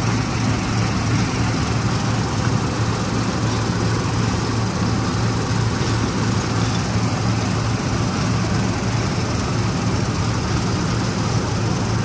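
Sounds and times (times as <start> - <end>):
harvester engine running: 0.0 - 12.0.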